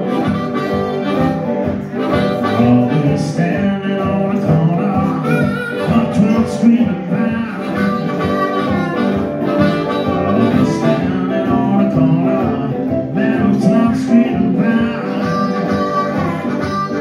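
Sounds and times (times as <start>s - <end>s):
electric guitar: 0.0s - 17.0s
harmonica wailing: 0.0s - 17.0s
strummed acoustic guitar: 0.0s - 17.0s.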